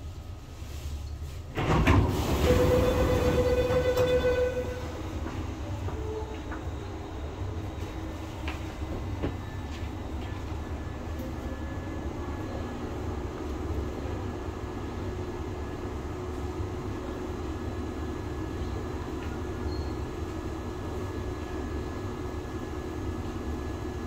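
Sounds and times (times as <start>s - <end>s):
train car humming: 0.0s - 24.0s.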